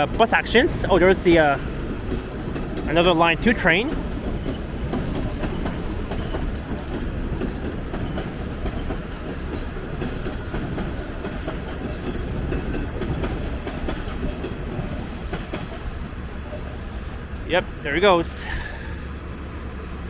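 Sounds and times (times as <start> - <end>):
subway train rumbling past: 0.0 - 20.0.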